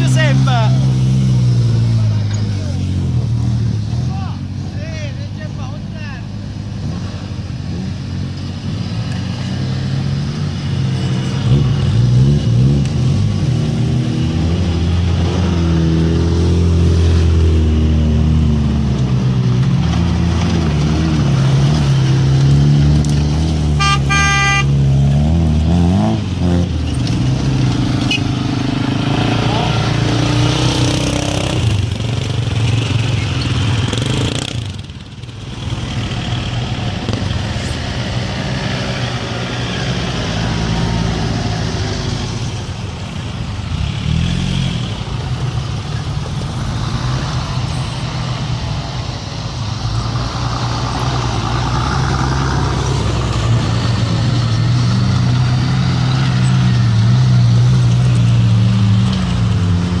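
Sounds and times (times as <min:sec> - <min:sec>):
off-road vehicles driving past: 0:00.0 - 1:00.0.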